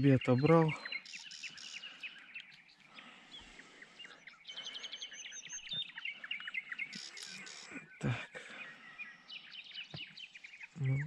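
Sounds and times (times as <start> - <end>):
birds singing and chirping: 0.0 - 11.0.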